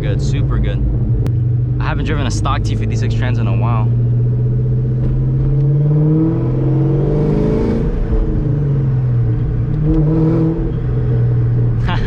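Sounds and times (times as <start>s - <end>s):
supercharged car engine accelerating: 1.4s - 12.0s.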